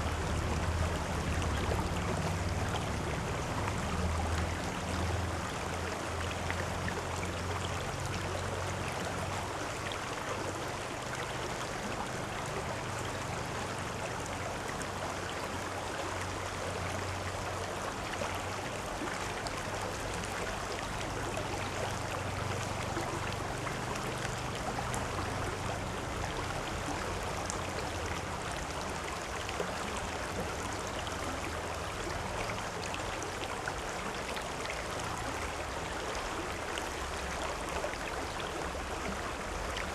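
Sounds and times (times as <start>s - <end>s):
stream water rushing over stones: 0.0s - 39.9s.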